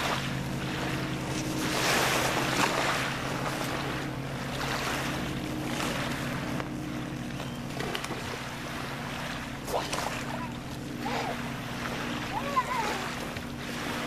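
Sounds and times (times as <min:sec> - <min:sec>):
steady low hum: 0:00.0 - 0:14.0
water sloshing: 0:00.0 - 0:14.0.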